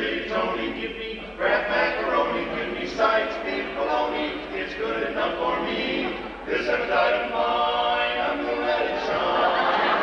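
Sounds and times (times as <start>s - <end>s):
male quartet singing a cappella: 0.0s - 10.0s.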